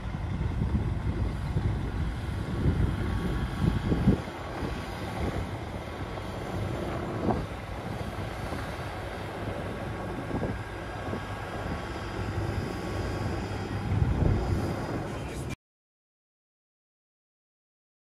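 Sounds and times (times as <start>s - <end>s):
heavy diesel engines rumbling: 0.0s - 15.6s.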